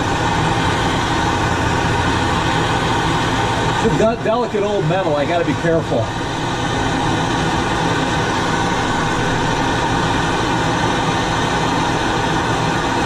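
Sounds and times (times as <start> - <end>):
gas torch hissing: 0.0 - 13.0.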